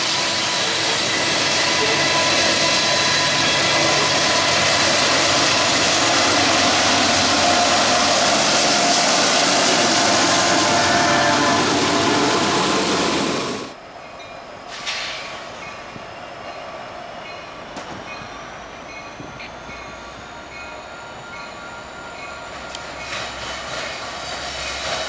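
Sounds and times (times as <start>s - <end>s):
distant diesel locomotive rumble: 0.0s - 25.0s
train wheel and rail noise: 0.0s - 25.0s.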